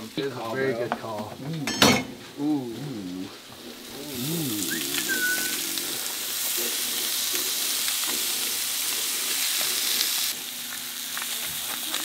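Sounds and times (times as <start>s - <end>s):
fish frying in a pan: 2.0s - 12.0s.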